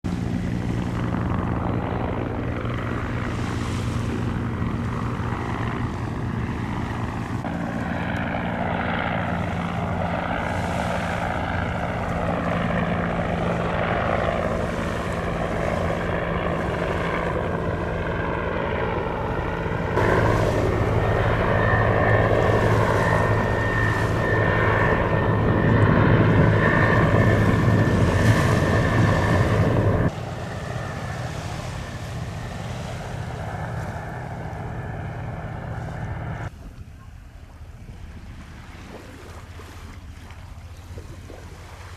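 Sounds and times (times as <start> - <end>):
engine drone: 0.0 - 41.9.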